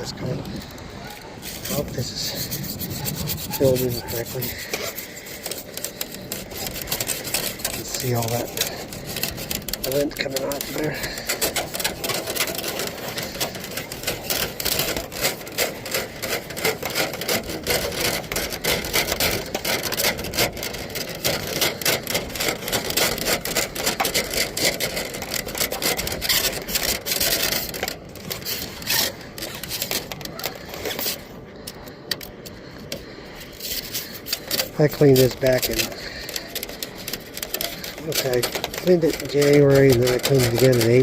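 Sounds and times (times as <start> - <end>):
rapid scratching and rubbing: 0.0 - 41.0.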